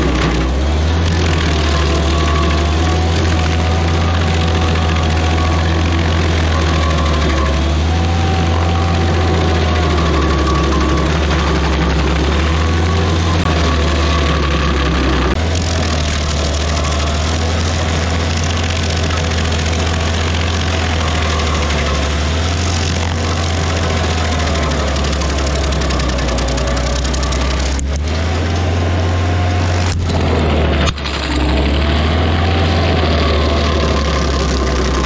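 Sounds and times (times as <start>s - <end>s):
gas engine running: 0.0s - 35.0s.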